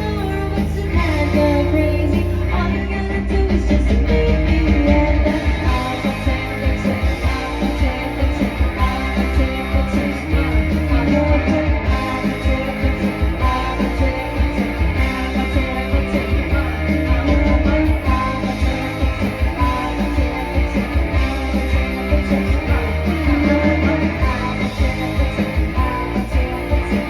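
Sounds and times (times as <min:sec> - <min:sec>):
bass guitar: 0:00.0 - 0:27.0
drums: 0:00.0 - 0:27.0
electric guitar: 0:00.0 - 0:27.0
person singing: 0:00.0 - 0:27.0.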